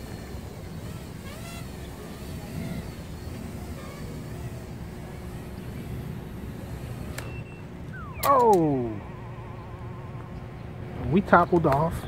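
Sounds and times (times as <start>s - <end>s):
quadcopter motors whining: 0.0s - 11.9s
traffic rumble: 0.0s - 12.0s
wind: 0.0s - 12.0s.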